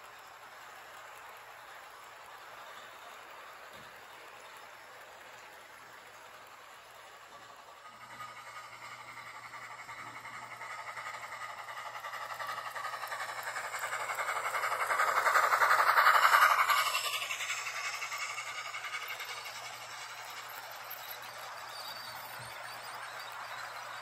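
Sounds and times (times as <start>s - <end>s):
model train wheels rattling on rails: 0.0s - 24.0s.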